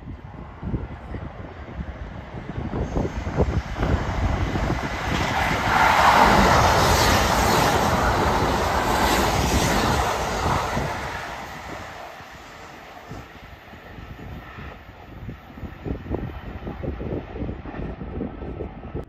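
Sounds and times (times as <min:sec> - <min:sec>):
electric train passing at speed: 0:00.0 - 0:19.0.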